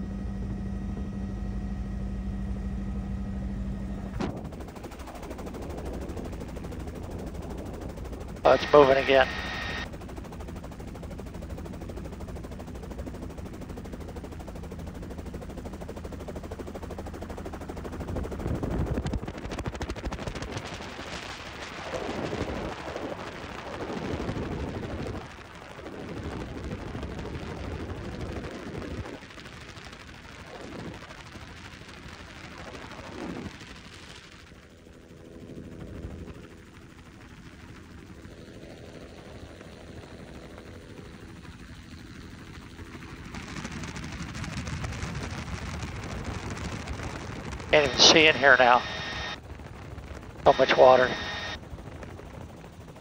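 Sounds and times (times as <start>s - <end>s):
helicopter rotor chop: 3.8s - 53.0s.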